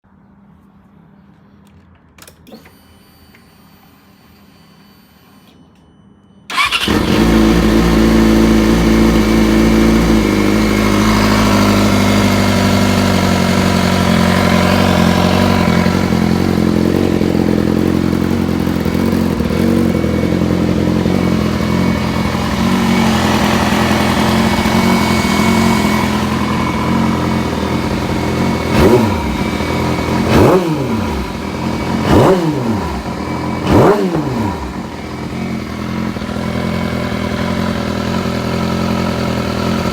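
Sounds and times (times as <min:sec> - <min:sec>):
engine throttle blips: 0:06.5 - 0:39.9
motorcycle engine starting and idling: 0:06.5 - 0:39.9.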